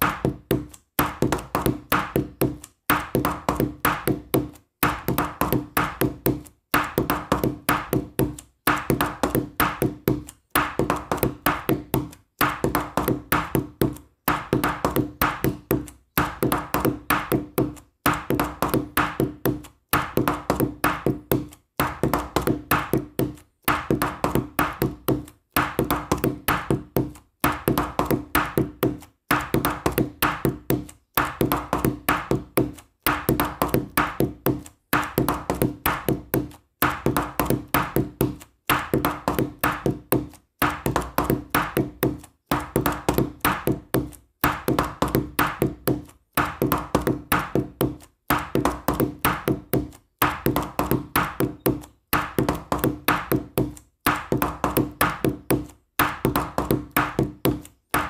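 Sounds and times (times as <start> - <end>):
quick percussive taps: 0.0 - 58.0.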